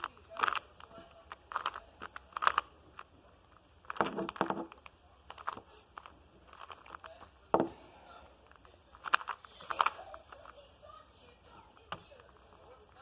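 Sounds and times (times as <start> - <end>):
puzzle cube clicking and scraping: 0.0 - 13.0.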